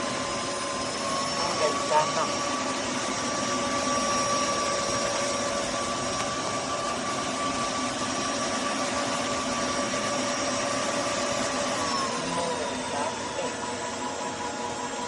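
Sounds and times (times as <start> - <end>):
vacuum mop rushing noise: 0.0 - 12.8
motor whine: 0.0 - 15.0.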